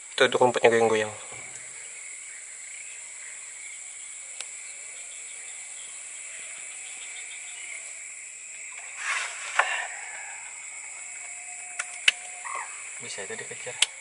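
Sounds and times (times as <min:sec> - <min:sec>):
crickets buzzing: 0:00.0 - 0:14.0.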